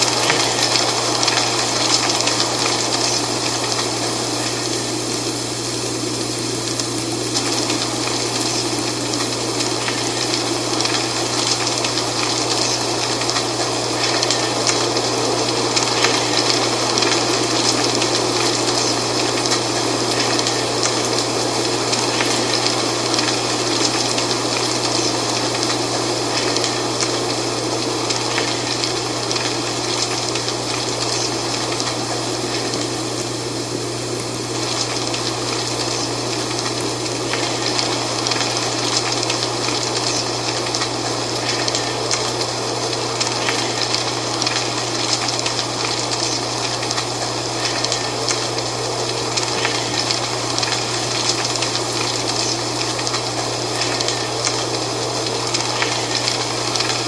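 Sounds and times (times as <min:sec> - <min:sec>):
dry leaves rustling: 0:00.0 - 0:57.0.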